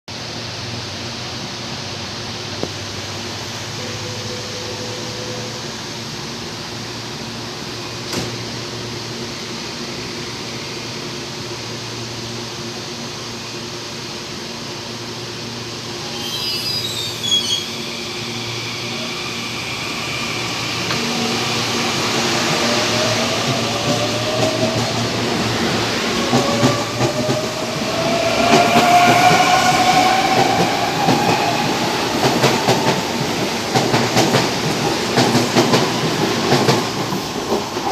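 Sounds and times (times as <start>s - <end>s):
electric train hum: 0.1s - 37.9s
train pulling away: 0.2s - 37.9s.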